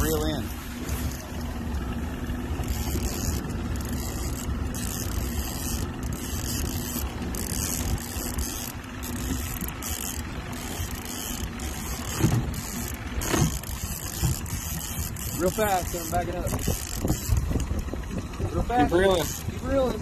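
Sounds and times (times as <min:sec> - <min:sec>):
boat motor running: 0:00.0 - 0:20.0.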